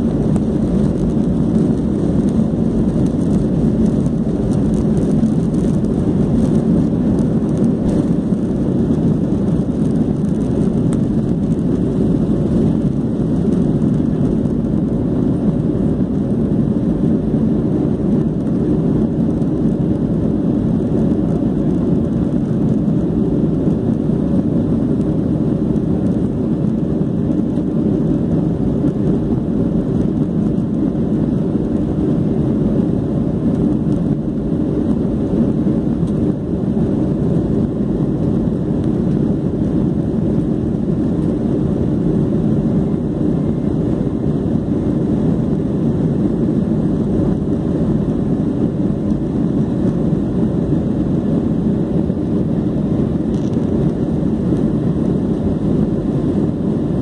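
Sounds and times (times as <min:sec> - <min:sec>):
jet engines rumbling at takeoff: 0:00.0 - 0:57.0.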